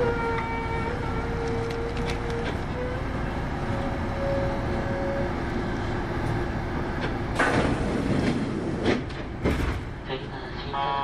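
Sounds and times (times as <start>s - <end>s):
train running rumble: 0.0s - 10.7s.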